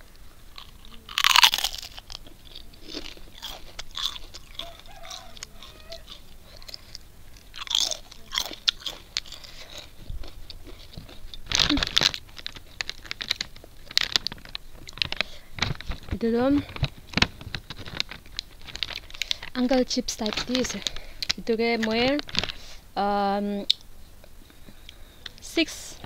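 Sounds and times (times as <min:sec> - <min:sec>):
crisp chip crunching: 0:00.0 - 0:22.7.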